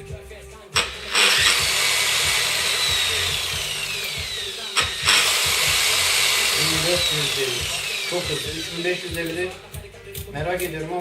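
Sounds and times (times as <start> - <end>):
polisher motor whining: 0.8 - 9.7.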